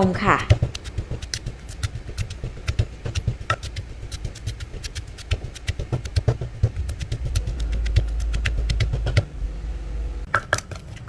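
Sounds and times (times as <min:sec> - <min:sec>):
wooden pestle pounding in mortar: 0:00.0 - 0:09.3.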